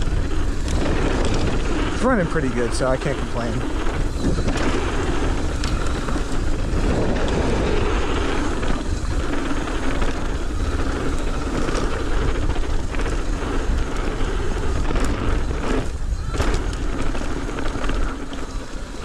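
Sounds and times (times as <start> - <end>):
mountain bike rumbling and rattling: 0.0 - 19.0
wind on microphone: 0.0 - 19.0.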